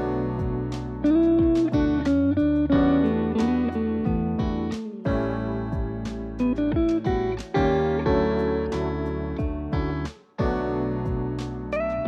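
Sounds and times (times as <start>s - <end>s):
guitar and keyboard music: 0.0s - 12.0s.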